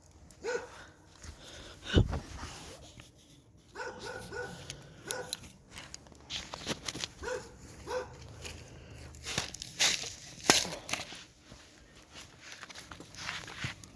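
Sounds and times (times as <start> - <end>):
campfire crackling: 0.0 - 13.9.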